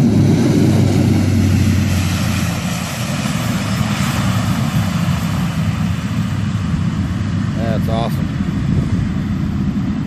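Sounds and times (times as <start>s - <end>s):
turboprop engines droning: 0.0s - 10.0s.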